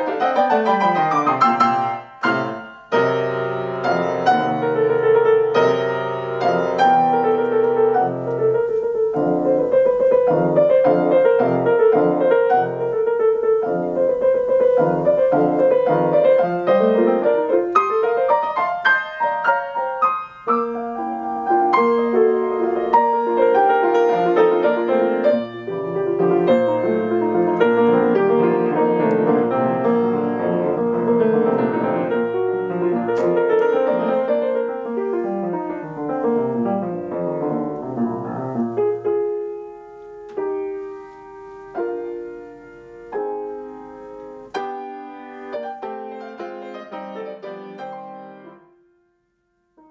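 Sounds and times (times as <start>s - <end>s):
solo classical grand piano: 0.0s - 49.9s.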